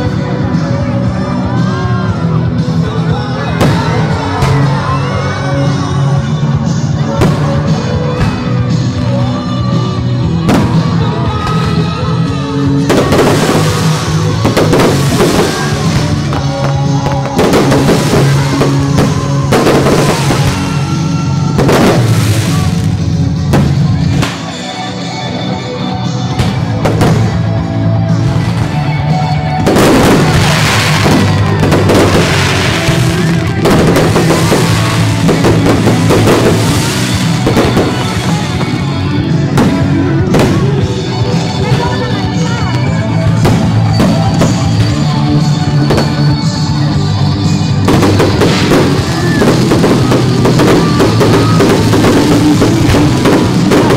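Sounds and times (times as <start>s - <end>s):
loud music: 0.0s - 53.9s
fireworks bursting and crackling: 1.4s - 25.2s, 26.2s - 53.9s.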